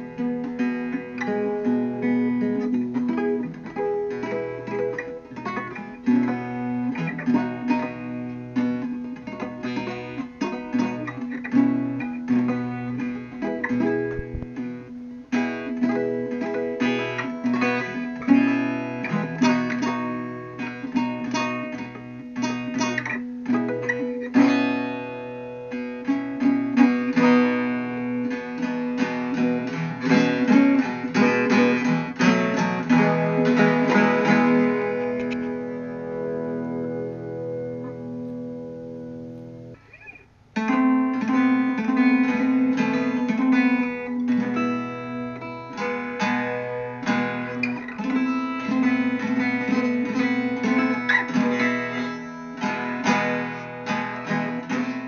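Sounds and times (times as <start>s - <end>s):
plucked guitar music: 0.0s - 55.0s.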